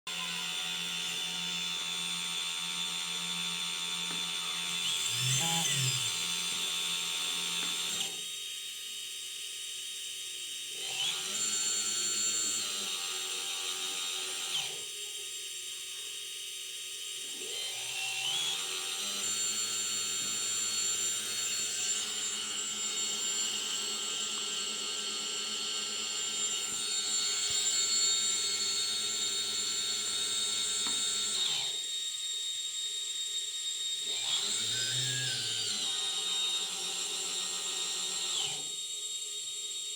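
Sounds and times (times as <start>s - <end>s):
small motor whining: 0.1s - 39.9s.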